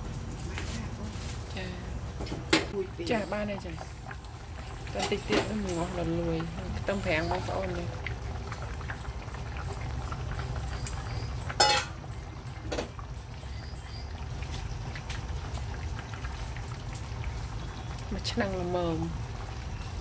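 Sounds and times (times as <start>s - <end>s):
gas burner rumble: 0.0s - 20.0s
sauce bubbling: 1.4s - 20.0s.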